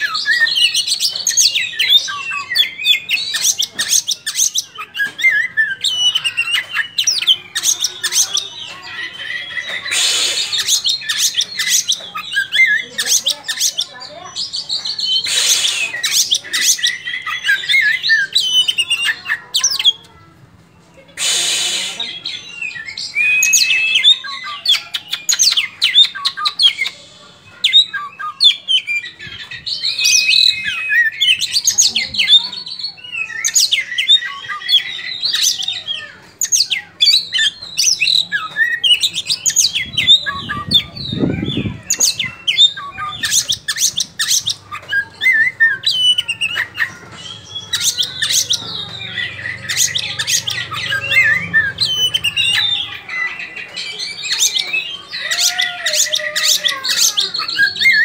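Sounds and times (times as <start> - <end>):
bird singing: 0.0 - 20.4, 21.0 - 58.0.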